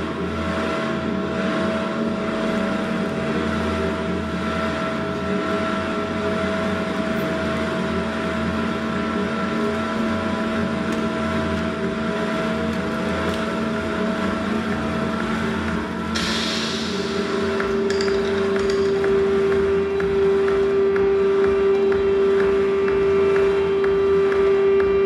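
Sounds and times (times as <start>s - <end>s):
electronic drone hum: 0.0s - 25.0s.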